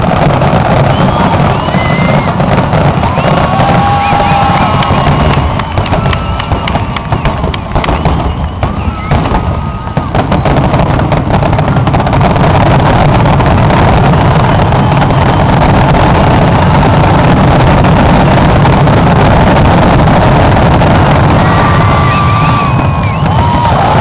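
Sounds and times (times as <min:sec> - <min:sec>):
fireworks shells bursting: 0:00.0 - 0:24.0.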